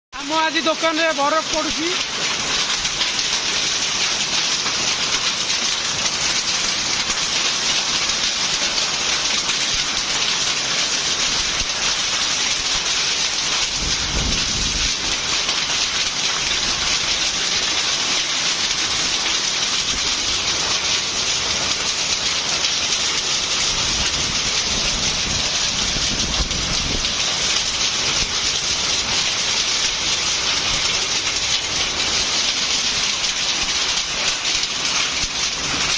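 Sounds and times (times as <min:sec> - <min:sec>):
heavy rain and hail: 0:00.2 - 0:35.9.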